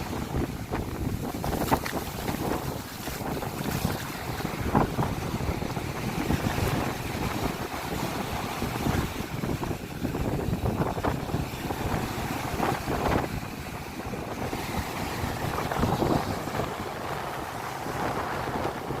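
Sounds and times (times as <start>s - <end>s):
sea waves washing: 0.0s - 19.0s
wind buffeting microphone: 0.0s - 19.0s.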